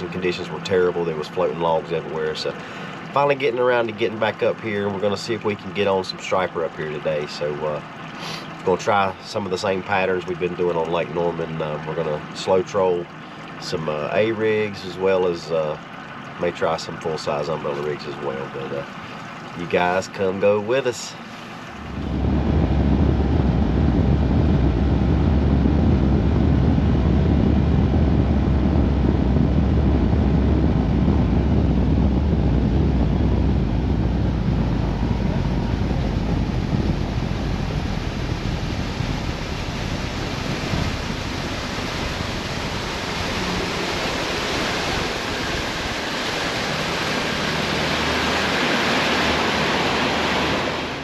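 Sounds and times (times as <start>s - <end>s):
wind and water rushing: 0.0s - 51.0s.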